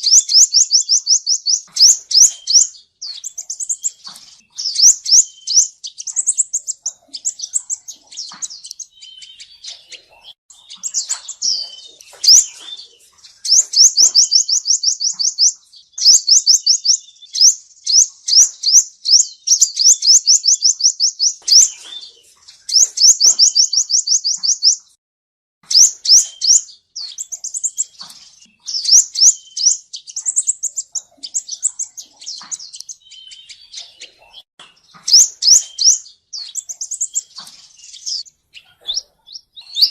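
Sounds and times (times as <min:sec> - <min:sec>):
sunbird high-pitched trills: 0:00.0 - 0:24.9, 0:25.7 - 0:39.9.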